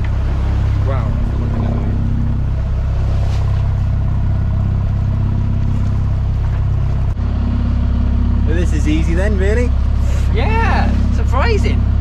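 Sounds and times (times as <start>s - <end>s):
boat engine droning: 0.0s - 12.0s
wind: 0.0s - 12.0s.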